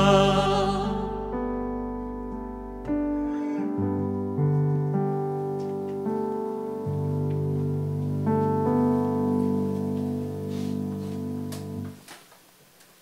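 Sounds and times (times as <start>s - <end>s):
keyboard playing soft chords: 0.0s - 12.0s.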